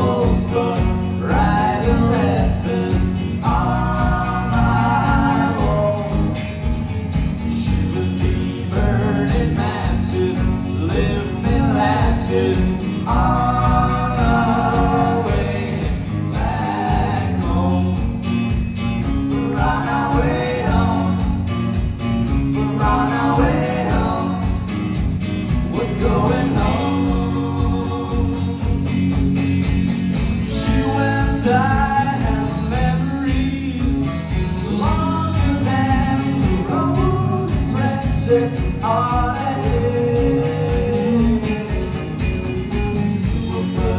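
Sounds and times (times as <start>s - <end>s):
voices singing together: 0.0s - 29.4s, 30.3s - 42.3s, 43.1s - 43.9s
live rock band playing: 0.0s - 43.9s.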